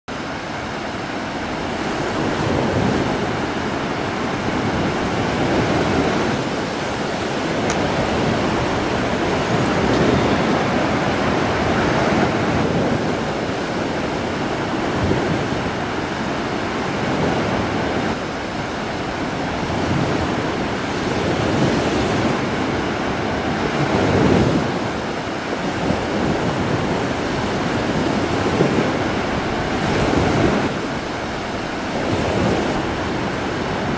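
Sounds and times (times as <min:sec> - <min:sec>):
ocean surf breaking: 0:00.1 - 0:33.9.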